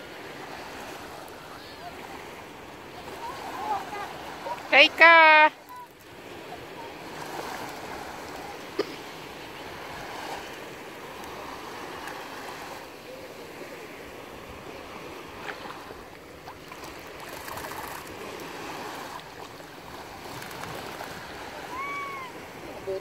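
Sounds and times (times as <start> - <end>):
small waves lapping: 0.0 - 23.0.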